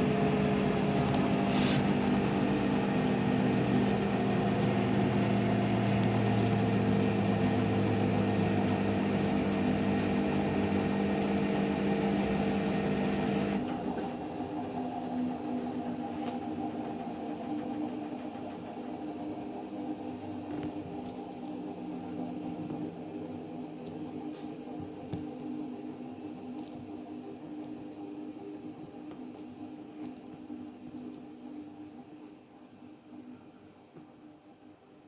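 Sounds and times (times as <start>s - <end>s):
washing machine motor hum: 0.0s - 34.3s.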